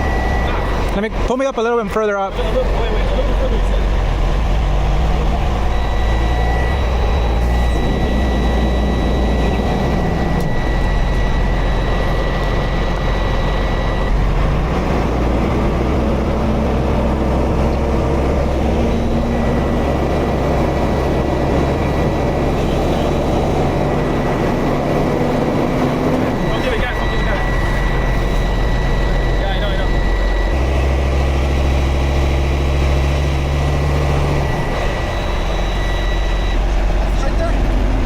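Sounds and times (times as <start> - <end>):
diesel engine rumbling: 0.0 - 38.0
thin steady whine: 0.0 - 38.0.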